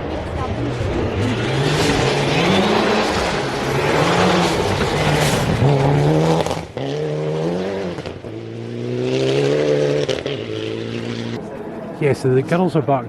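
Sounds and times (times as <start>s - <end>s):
rally car engine revving: 0.0s - 11.5s.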